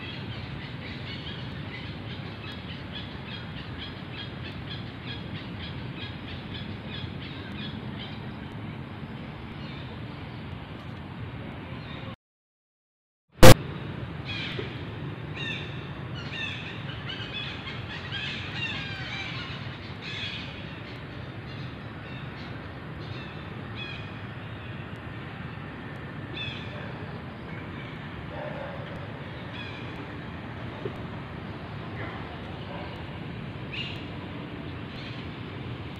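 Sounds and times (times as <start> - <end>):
low outdoor background noise: 0.0 - 12.2, 13.4 - 35.9.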